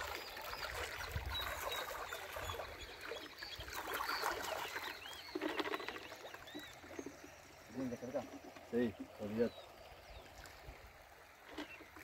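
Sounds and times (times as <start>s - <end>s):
small birds chirping: 0.0s - 10.7s.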